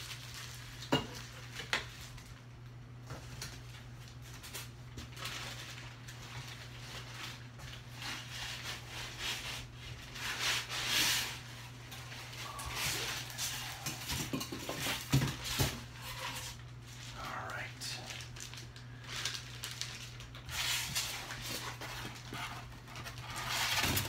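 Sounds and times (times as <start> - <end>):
packing material rustling: 0.0 - 2.6, 3.2 - 13.9, 14.8 - 24.0.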